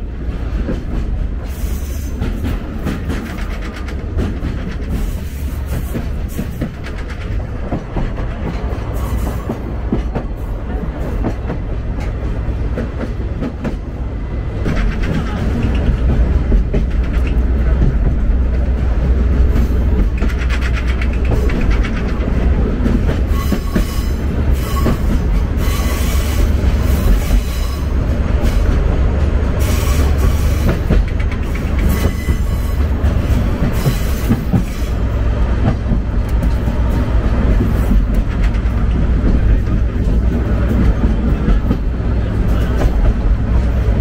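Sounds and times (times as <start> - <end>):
train rumbling along track: 0.0 - 44.0
wheel-on-rail noise: 0.0 - 44.0.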